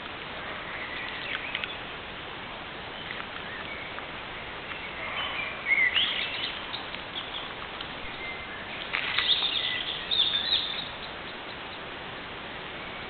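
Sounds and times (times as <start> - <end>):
steady background hiss: 0.0 - 13.0
wild birds singing: 0.0 - 13.0.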